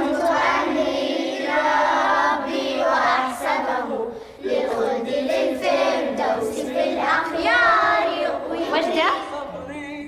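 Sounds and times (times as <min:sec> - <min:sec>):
girls singing in unison: 0:00.0 - 0:09.6.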